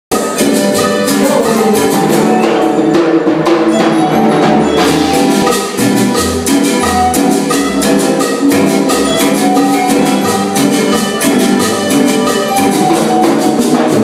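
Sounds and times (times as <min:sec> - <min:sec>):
live band playing: 0:00.1 - 0:14.0
low bass notes: 0:00.1 - 0:14.0.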